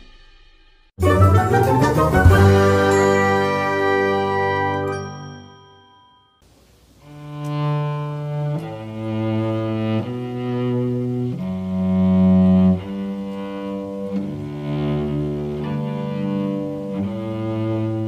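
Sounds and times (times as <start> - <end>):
slow melody of long held notes: 1.0 - 18.0.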